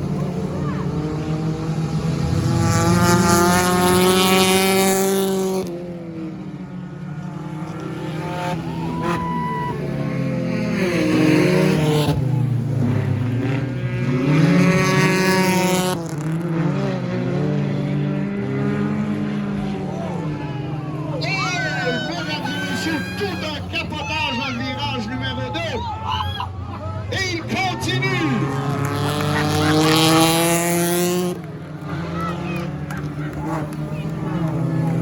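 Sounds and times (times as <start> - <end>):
race car engines passing: 0.0 - 35.0
steady drone of cars: 0.0 - 35.0.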